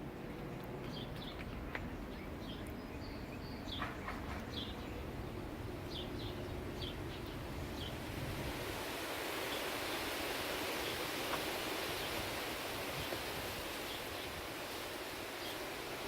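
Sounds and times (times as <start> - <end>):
wind rumbling: 0.0 - 16.0.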